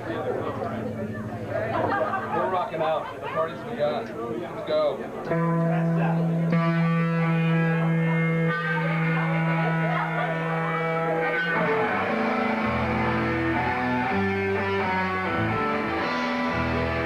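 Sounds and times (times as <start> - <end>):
live rock band with guitar: 0.0 - 4.2, 4.8 - 17.0.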